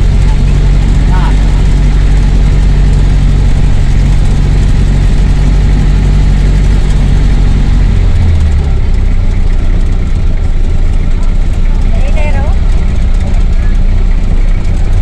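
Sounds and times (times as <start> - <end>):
rough dirt road rumble: 0.0 - 15.0
vehicle engine drone: 0.0 - 15.0.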